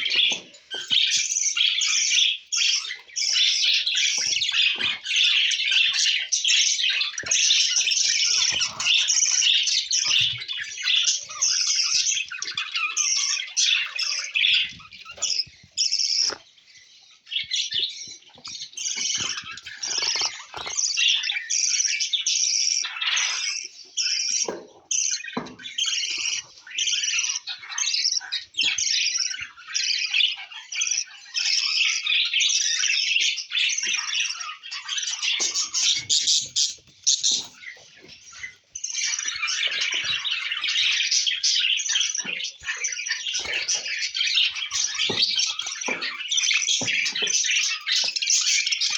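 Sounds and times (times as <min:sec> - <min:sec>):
budgerigars chirping and squawking: 0:00.0 - 0:48.9.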